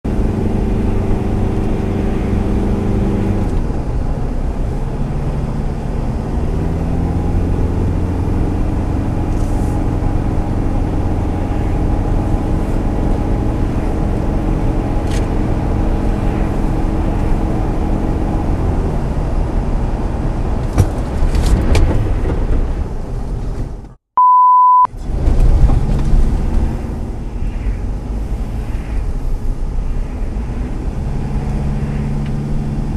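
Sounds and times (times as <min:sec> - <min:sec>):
car engine humming: 0:00.0 - 0:32.9.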